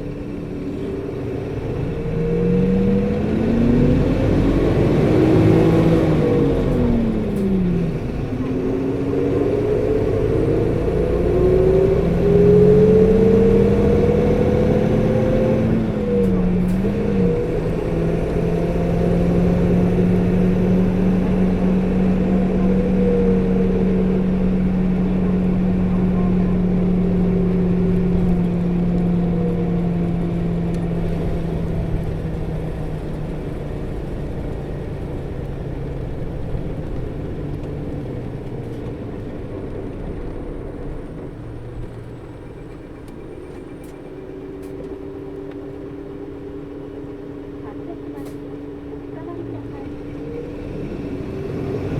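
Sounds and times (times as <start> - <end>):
bus diesel engine drone: 0.0 - 51.9.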